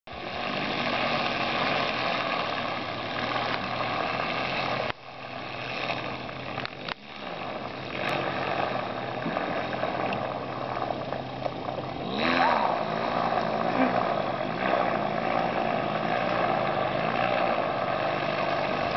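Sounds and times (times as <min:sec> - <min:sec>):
small outboard engine running: 0:00.1 - 0:18.9.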